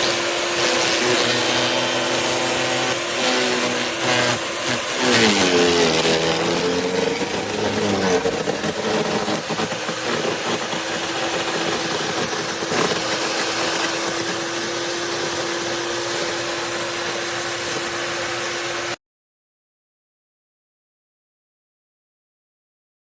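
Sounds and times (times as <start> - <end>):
wood chipper motor whining: 0.0 - 19.0.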